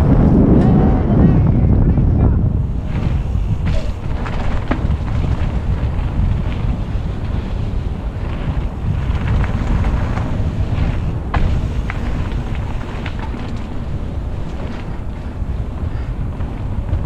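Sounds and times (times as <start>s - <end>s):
wind buffeting microphone: 0.0s - 17.0s
bike knocks and rattles: 2.6s - 17.0s.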